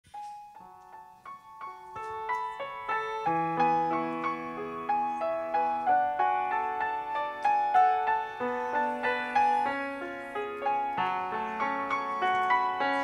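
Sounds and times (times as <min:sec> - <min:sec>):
grand piano melody: 0:00.0 - 0:13.0.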